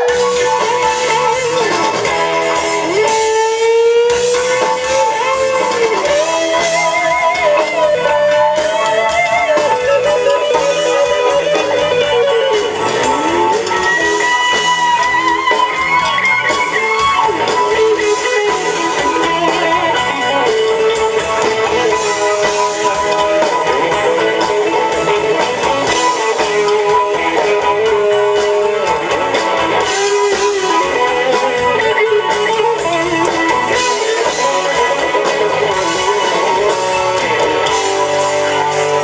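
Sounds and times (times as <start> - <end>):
electric guitar bending notes: 0.0 - 39.0
live rock band playing: 0.0 - 39.0.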